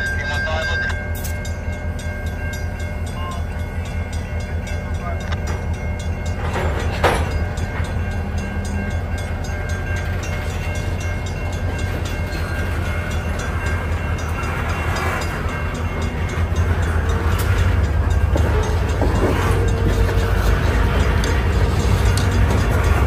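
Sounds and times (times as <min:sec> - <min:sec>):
diesel locomotives rumbling: 0:00.0 - 0:23.0.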